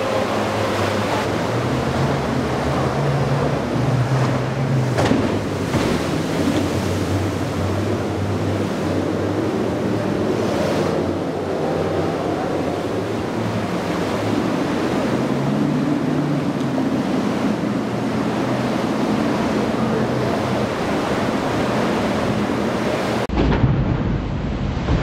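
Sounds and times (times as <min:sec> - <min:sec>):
outboard motors droning: 0:00.0 - 0:23.3
surf churning and breaking: 0:00.0 - 0:25.0.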